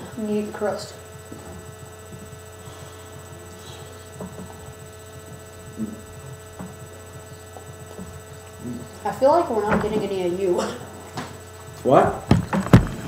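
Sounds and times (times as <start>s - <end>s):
electrical hum with fixed tones: 0.0s - 13.0s.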